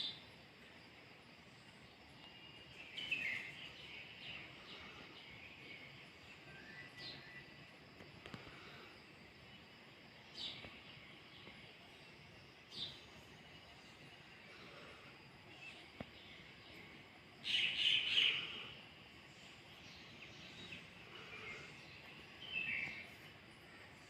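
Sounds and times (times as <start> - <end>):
faint background hiss: 0.0 - 24.0
birds chirping: 1.6 - 24.0.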